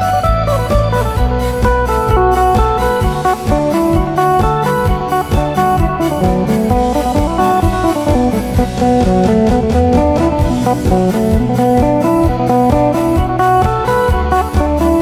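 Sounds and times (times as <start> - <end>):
amplified plucked lute melody: 0.0 - 15.0
steady low beat: 0.0 - 15.0.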